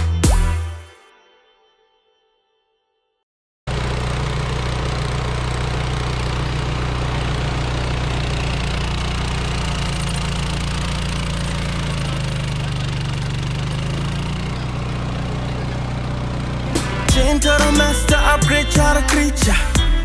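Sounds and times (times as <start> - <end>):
mower engine running under load: 3.7 - 19.8.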